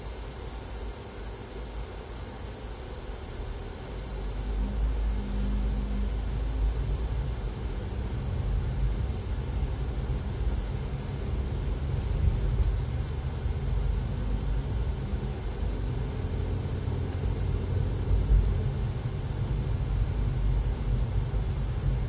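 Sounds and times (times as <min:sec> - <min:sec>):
car engine and tyre rumble: 0:03.1 - 0:22.0.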